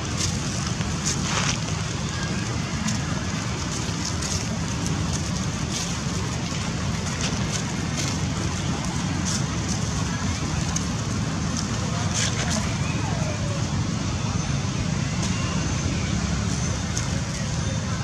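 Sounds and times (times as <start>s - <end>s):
dry leaves crackling underfoot: 0.0s - 18.0s
low outdoor rumble: 0.0s - 18.0s.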